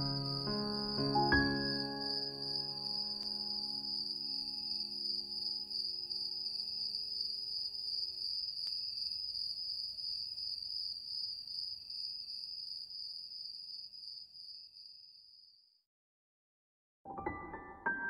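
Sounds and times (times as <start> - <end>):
crickets chirping: 0.0 - 15.8.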